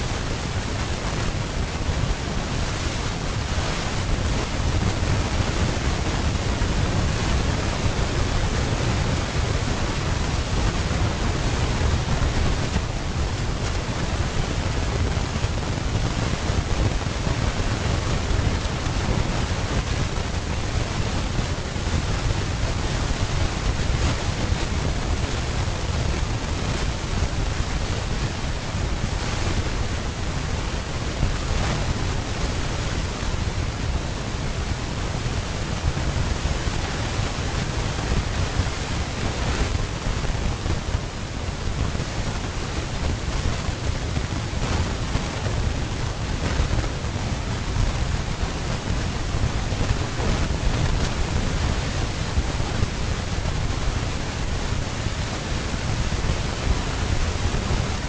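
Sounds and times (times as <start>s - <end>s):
steady rushing noise with low rumble: 0.0s - 58.0s.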